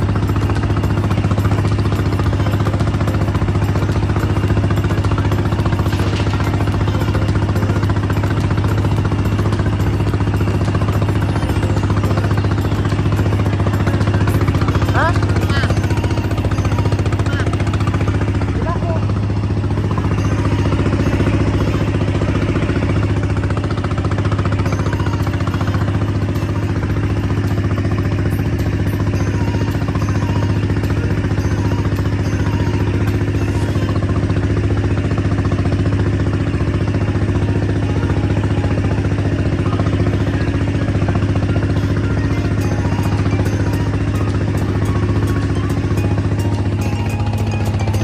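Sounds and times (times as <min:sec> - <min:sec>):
boat engine droning: 0:00.0 - 0:48.0.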